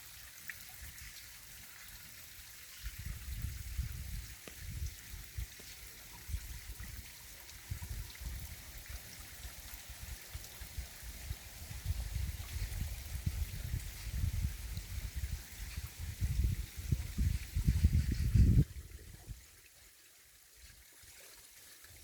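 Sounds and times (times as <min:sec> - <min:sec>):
stream water over rocks: 0:00.0 - 0:22.0.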